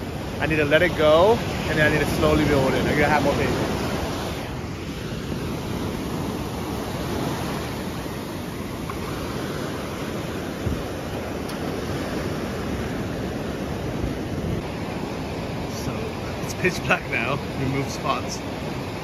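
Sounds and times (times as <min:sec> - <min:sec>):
wind buffeting microphone: 0:00.0 - 0:16.6
ocean surf on beach: 0:00.0 - 0:19.0.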